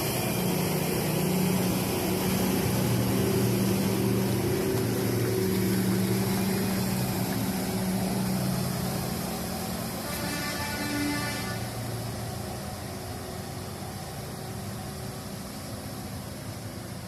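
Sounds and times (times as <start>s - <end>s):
broad rushing noise: 0.0s - 17.0s
truck diesel engine drone: 0.0s - 17.0s.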